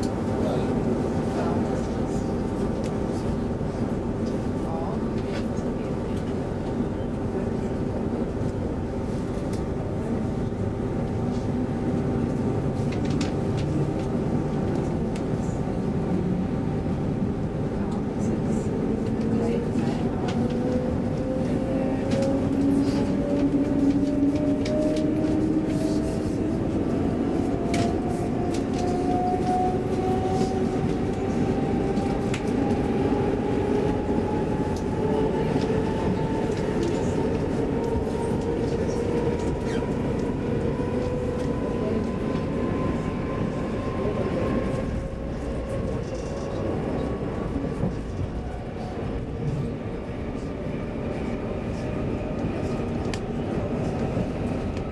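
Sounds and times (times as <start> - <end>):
train interior rumble: 0.0 - 54.9.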